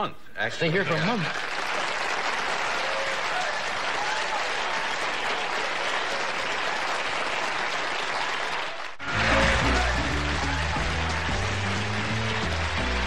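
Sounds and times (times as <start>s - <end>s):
audience applauding: 0.8s - 13.0s.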